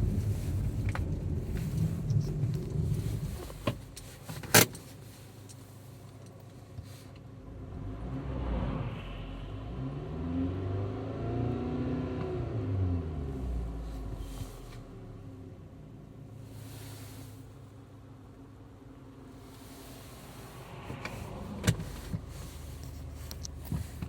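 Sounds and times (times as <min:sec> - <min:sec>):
low engine rumble: 0:00.0 - 0:11.2, 0:12.2 - 0:24.0.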